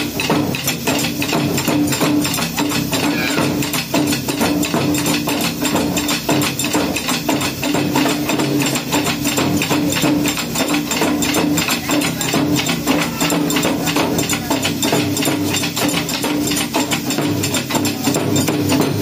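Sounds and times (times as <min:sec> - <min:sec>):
taiko drums playing: 0:00.0 - 0:19.0.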